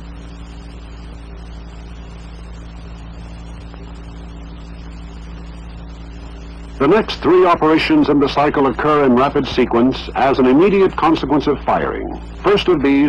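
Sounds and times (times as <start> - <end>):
film soundtrack hum and hiss: 0.0 - 13.0.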